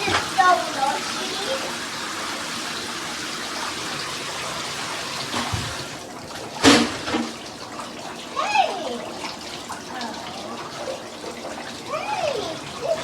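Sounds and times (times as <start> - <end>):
shower water running: 0.0 - 13.0.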